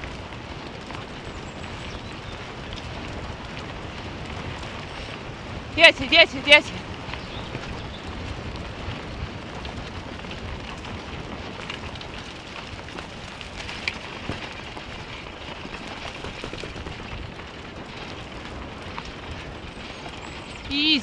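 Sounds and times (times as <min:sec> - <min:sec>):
wheels rolling over dirt trail: 0:00.0 - 0:21.0.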